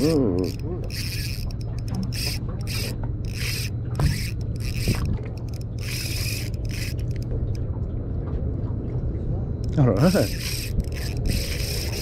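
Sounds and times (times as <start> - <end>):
fishing reel rasping whirrs: 0.0 - 7.6, 9.6 - 12.0
steady low hum: 0.0 - 12.0.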